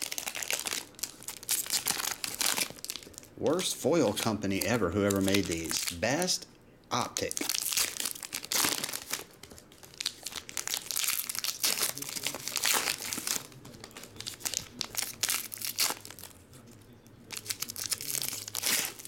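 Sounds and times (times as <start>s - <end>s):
foil wrappers crinkling and tearing: 0.0s - 6.4s, 7.0s - 19.0s.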